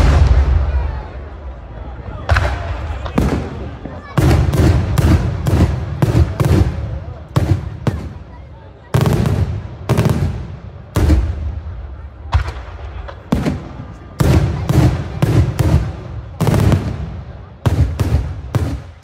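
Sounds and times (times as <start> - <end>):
fireworks bangs: 0.0 - 1.5, 2.2 - 19.0.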